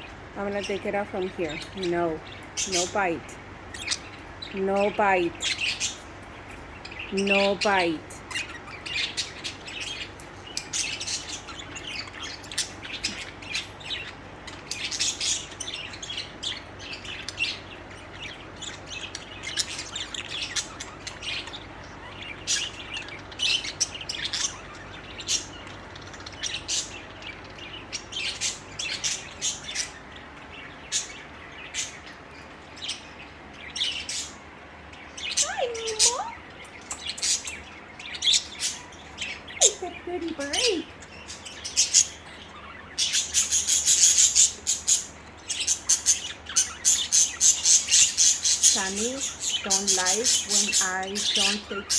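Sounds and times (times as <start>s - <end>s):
budgies chirping: 0.0s - 51.9s.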